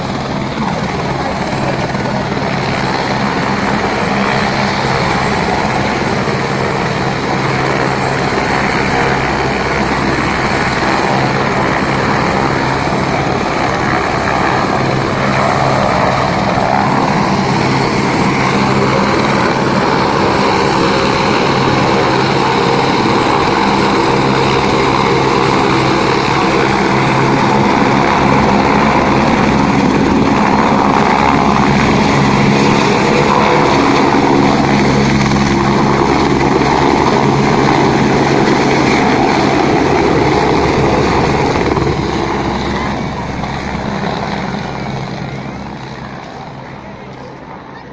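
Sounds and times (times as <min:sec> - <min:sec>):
helicopter turbine and rotor: 0:00.0 - 0:47.9.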